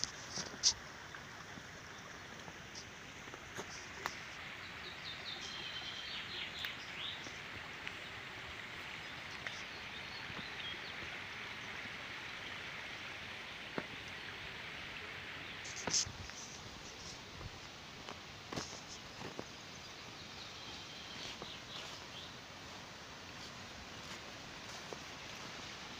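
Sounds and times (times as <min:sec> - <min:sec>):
stream flowing: 0:00.0 - 0:25.9.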